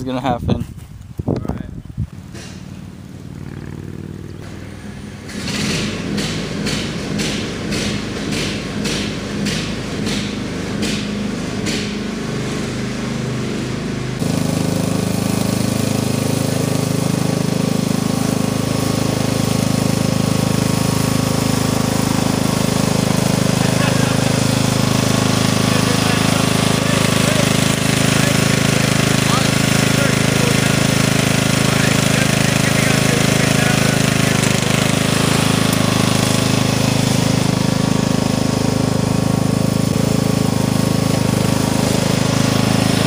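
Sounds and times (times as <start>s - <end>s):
riding lawn mower engine running: 0.0s - 43.0s.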